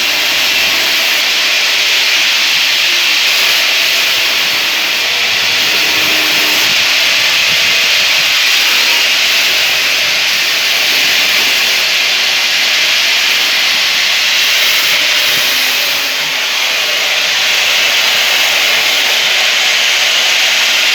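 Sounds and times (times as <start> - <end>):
saw blade cutting wood: 0.0 - 20.9.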